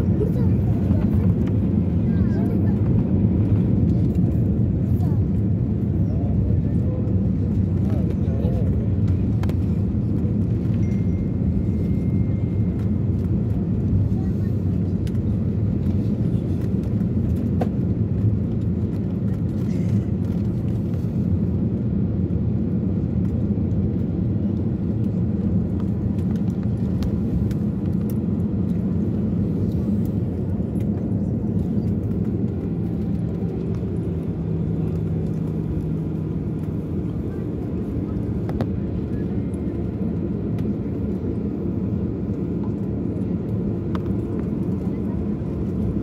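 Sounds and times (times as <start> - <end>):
aircraft cabin rumble: 0.0 - 46.0.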